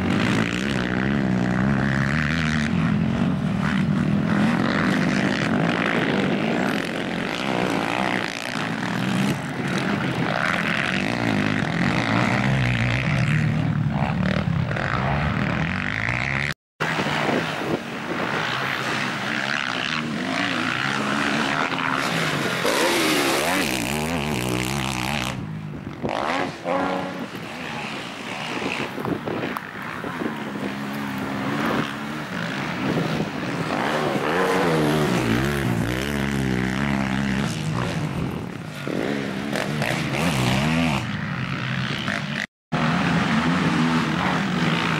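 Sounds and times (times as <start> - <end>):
quad bike engines revving: 0.0 - 44.9.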